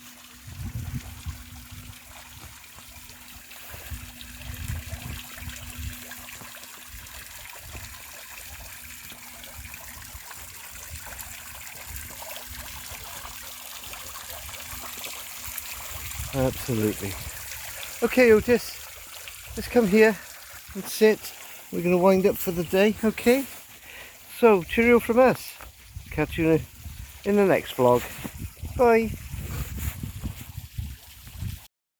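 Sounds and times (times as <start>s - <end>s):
fountain water splashing: 0.0s - 29.4s, 30.2s - 31.7s.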